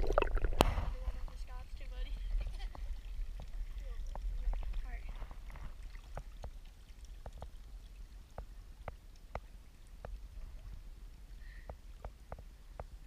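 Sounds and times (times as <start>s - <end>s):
low river rumble: 0.0s - 11.6s
water dripping and splashing: 0.0s - 13.0s.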